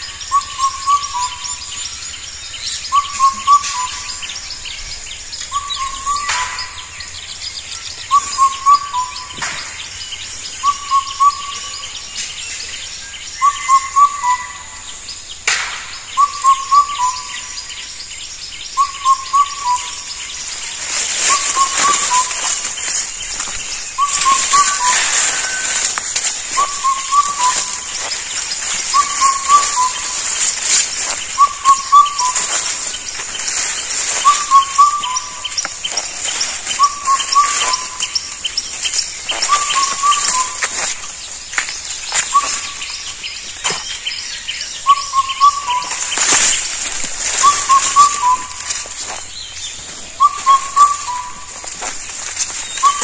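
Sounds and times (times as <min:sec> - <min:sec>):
cuckoo calling: 0:00.0 - 0:01.8, 0:02.8 - 0:04.4, 0:05.4 - 0:07.0, 0:08.1 - 0:09.7, 0:10.6 - 0:12.0, 0:13.4 - 0:14.9, 0:16.2 - 0:17.6, 0:18.8 - 0:53.0.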